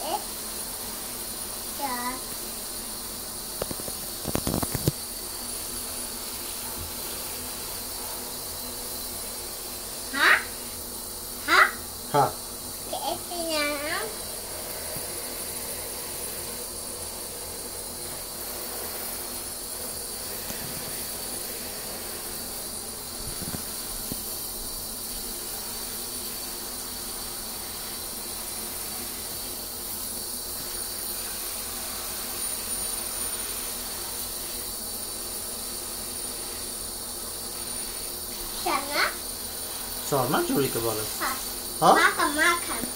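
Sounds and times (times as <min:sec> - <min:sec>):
shower spray into bathwater: 0:00.0 - 0:42.9.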